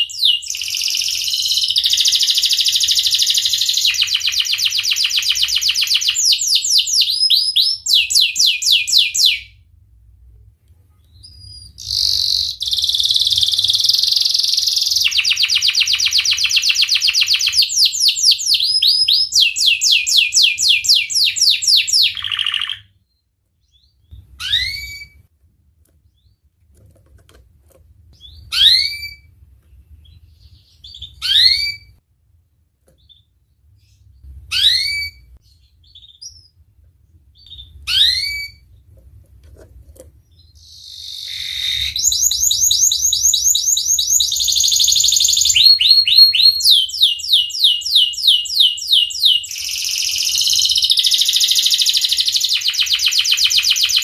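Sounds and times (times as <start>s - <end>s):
sharply rising bird chirps: 0.0s - 9.5s, 11.2s - 25.2s, 30.0s - 32.0s, 33.0s - 36.6s, 37.4s - 38.7s, 40.3s - 54.0s
canary singing trills: 0.0s - 9.6s, 11.1s - 25.2s, 28.2s - 32.0s, 33.0s - 36.6s, 37.4s - 38.8s, 40.2s - 54.0s.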